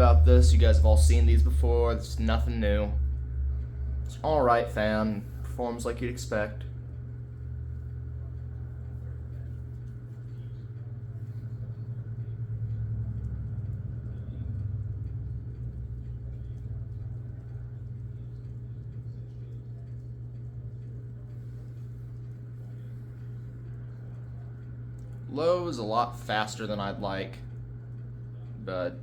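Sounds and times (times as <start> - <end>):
ceiling fan motor humming: 0.0 - 29.0.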